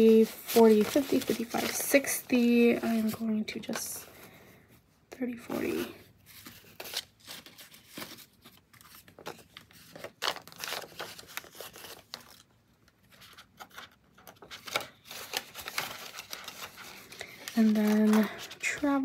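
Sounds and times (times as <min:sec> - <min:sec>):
paper banknotes rustling: 0:00.0 - 0:03.9, 0:06.3 - 0:19.0.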